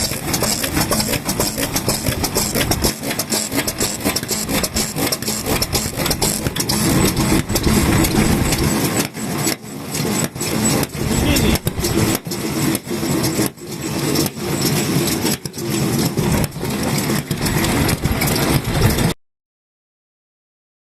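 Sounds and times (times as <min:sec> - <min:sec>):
stationary engines chugging: 0:00.0 - 0:19.2.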